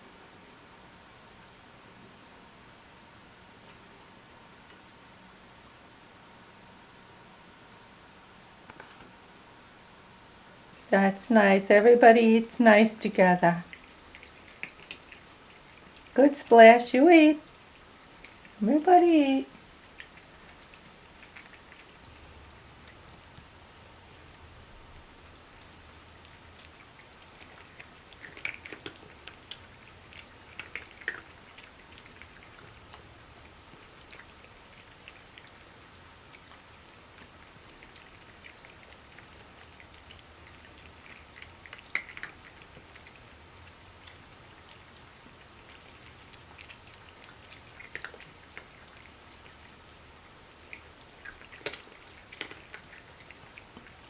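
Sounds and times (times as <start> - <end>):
cats eating and chewing: 0.0 - 54.0.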